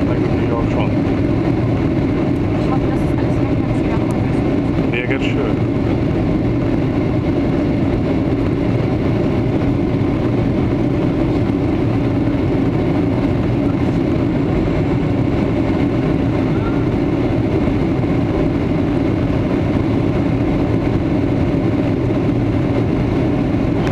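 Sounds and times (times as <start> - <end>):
jet engines at climb power: 0.0 - 23.9.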